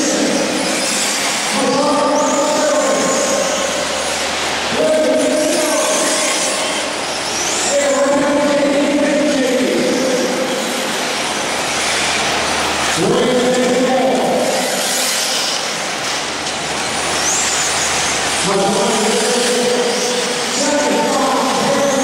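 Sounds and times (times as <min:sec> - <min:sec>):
rc car engines buzzing: 0:00.0 - 0:22.0.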